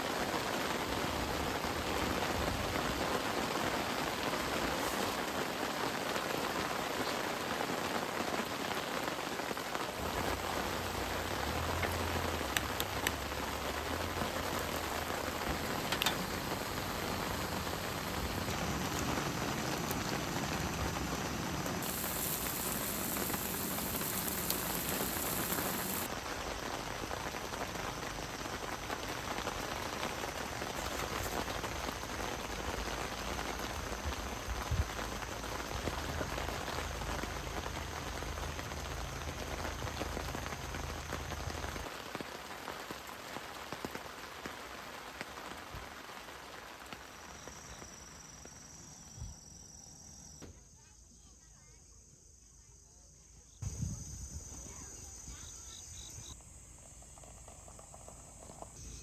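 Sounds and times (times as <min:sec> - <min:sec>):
rain falling: 0:00.0 - 0:49.7, 0:55.6 - 0:59.0.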